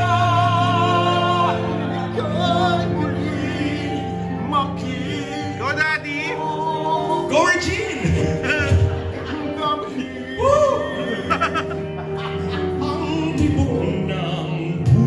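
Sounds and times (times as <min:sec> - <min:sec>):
men singing a slow ballad: 0:00.0 - 0:15.0
steady musical accompaniment: 0:00.0 - 0:15.0.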